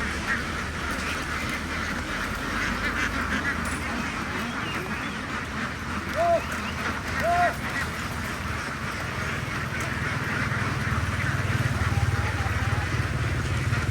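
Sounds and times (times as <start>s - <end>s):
flock of ducks quacking: 0.0s - 13.9s
single loud duck quack: 0.1s - 13.9s.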